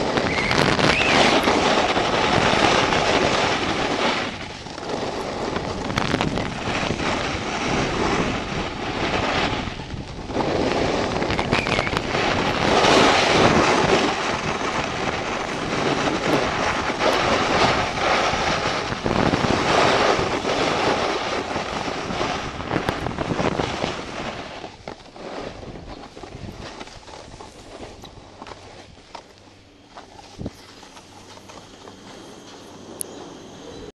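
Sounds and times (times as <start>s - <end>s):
snowboard scraping over snow: 0.0s - 33.9s
wind on microphone: 0.0s - 33.9s.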